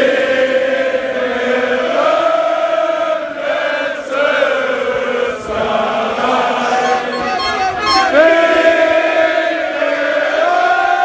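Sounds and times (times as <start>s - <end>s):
crowd singing a chant: 0.0s - 11.0s.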